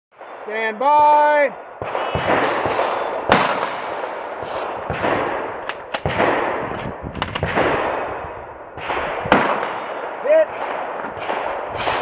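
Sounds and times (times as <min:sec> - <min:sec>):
gunshots with echoing tail: 0:00.1 - 0:12.0.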